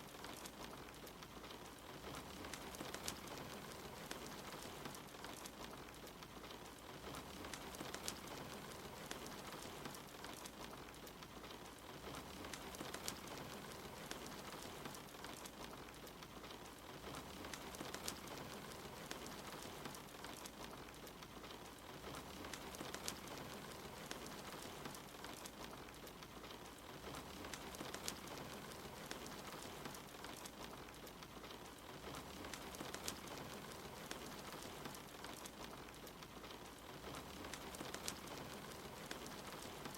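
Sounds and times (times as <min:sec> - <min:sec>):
soft rain: 0:00.0 - 0:39.9
wood fire crackling: 0:00.0 - 0:39.9.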